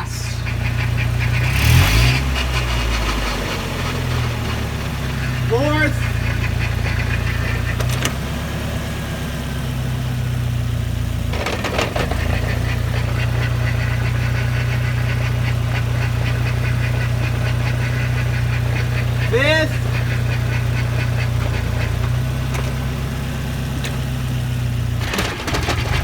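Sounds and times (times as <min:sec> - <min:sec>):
car engine humming: 0:00.0 - 0:26.0
rapid transmission ticking: 0:00.0 - 0:26.0.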